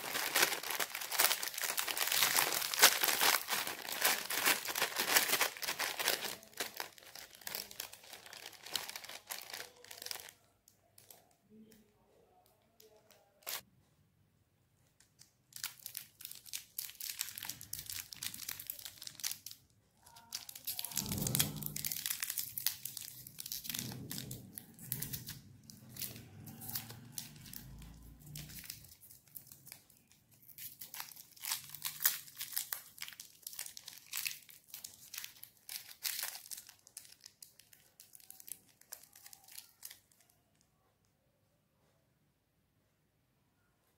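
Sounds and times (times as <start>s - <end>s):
plastic candy wrapper crackling: 0.0s - 11.8s, 12.8s - 13.6s, 15.0s - 40.6s.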